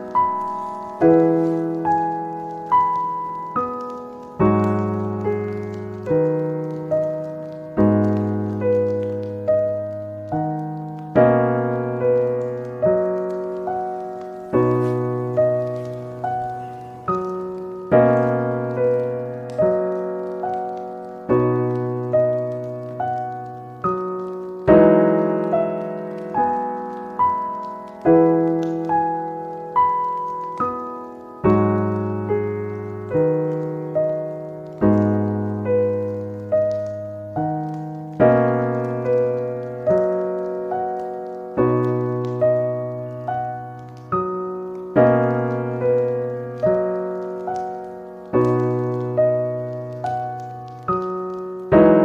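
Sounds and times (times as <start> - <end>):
fireplace crackling: 0.0 - 52.0
slow gentle piano music: 0.0 - 52.0.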